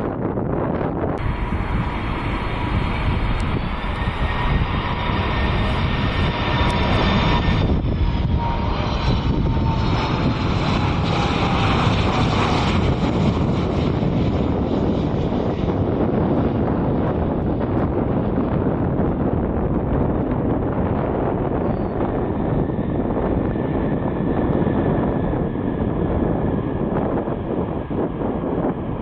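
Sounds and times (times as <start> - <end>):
jet engines rumbling and whining: 0.0 - 29.0.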